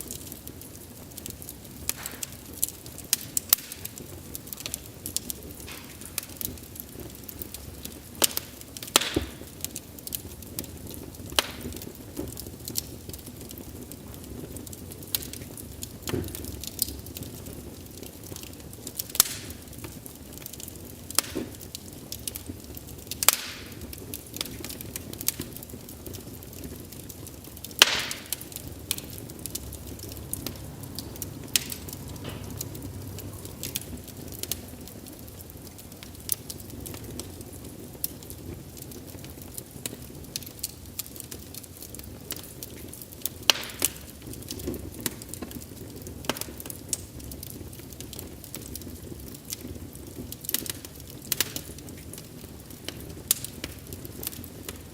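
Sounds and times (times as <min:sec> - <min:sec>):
burning logs popping: 0:00.0 - 0:54.9
low steady hiss: 0:00.0 - 0:54.9
wood fire crackling: 0:00.0 - 0:54.9.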